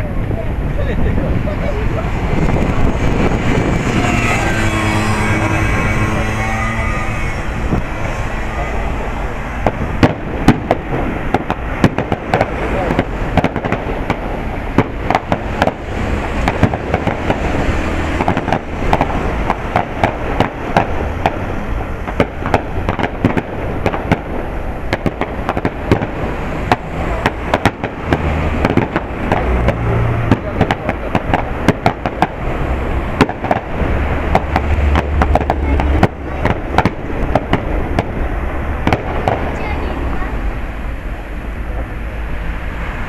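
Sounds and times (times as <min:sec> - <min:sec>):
fireworks bangs and crackling: 0:00.0 - 0:43.0
low rumble: 0:00.0 - 0:43.0.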